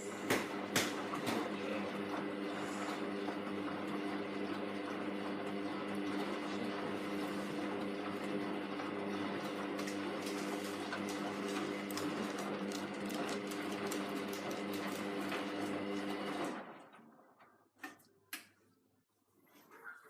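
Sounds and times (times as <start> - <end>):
washing machine churning: 0.0 - 18.0.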